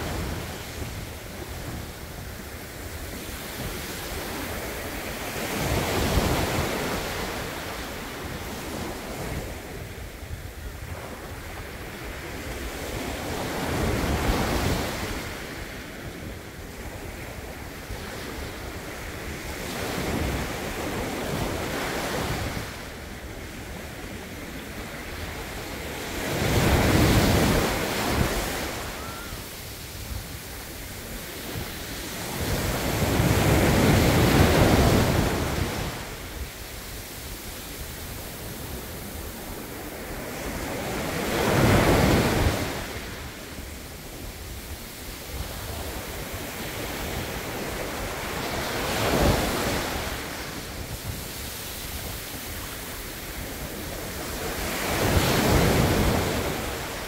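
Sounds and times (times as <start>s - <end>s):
waves washing up a beach: 0.0s - 57.0s.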